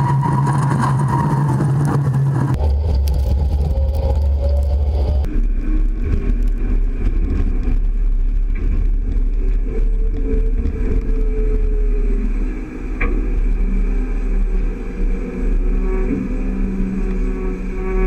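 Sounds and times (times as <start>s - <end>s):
deep rumble of grain cart: 0.0s - 18.0s
tractor engine drone: 0.0s - 18.0s.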